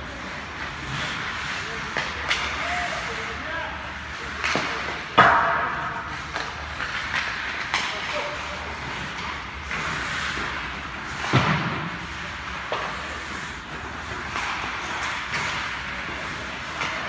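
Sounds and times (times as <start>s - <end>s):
skates scraping on ice: 0.0s - 17.0s.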